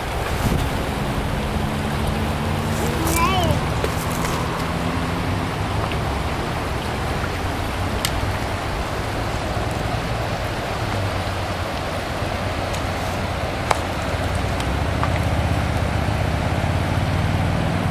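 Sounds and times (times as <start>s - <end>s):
river rushing over gravel: 0.0s - 17.4s.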